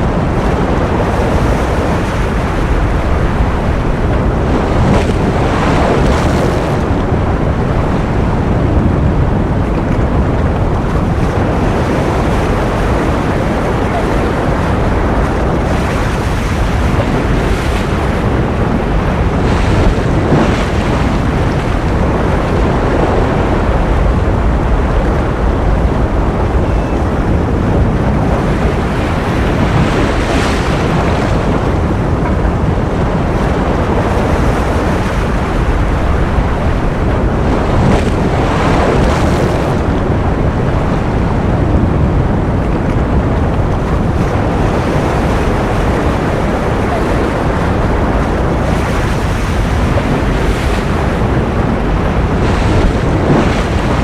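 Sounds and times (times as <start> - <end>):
ocean surf: 0.0 - 54.0.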